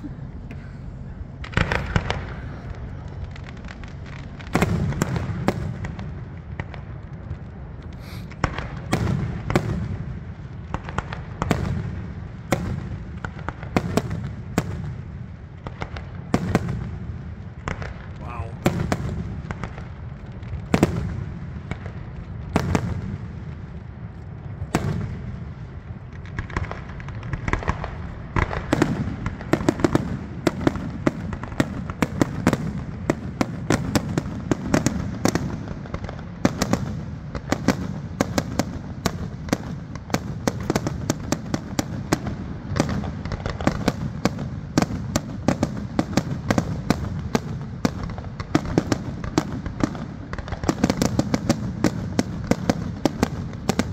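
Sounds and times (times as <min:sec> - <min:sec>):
fireworks bangs and cracks: 0:00.0 - 0:53.9
fireworks booms: 0:00.0 - 0:53.9.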